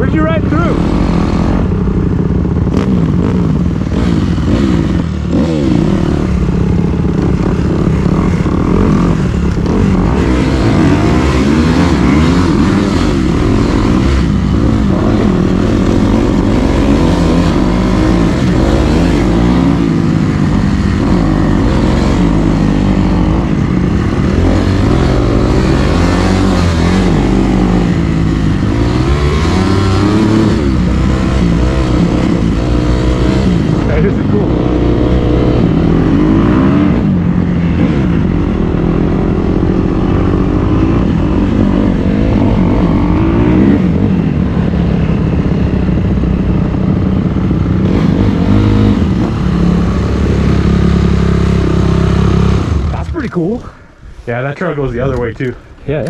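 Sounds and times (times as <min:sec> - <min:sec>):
dirt bike engine revving: 0:00.0 - 0:53.6.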